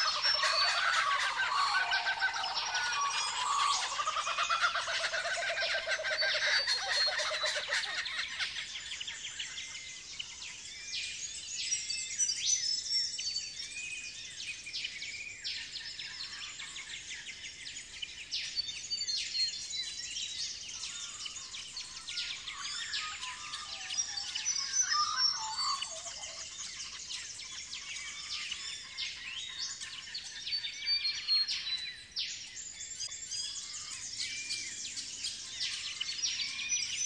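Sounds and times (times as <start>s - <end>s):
birds chirping and calling: 0.0s - 37.0s
low rhythmic bird call: 0.0s - 37.0s.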